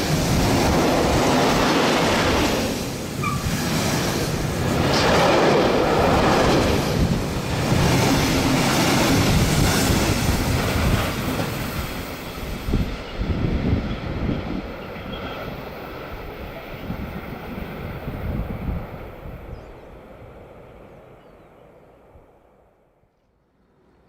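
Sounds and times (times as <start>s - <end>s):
train running past on rails: 0.0s - 24.0s.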